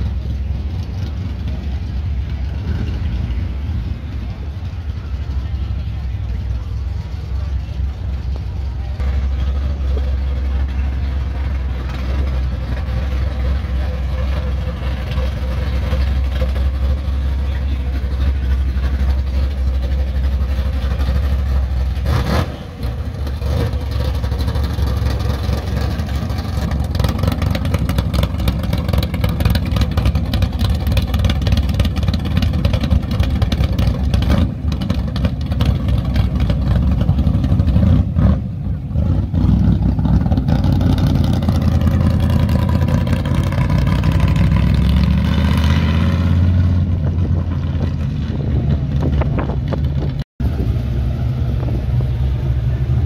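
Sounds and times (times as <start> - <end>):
car accelerating: 0.0 - 53.0
car engine rumbling: 0.0 - 53.0.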